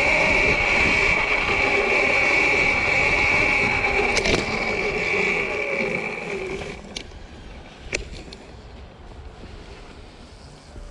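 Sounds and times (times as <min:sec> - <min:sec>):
electric motorbike whine: 0:00.0 - 0:10.9
wind and tyre noise: 0:00.0 - 0:10.9.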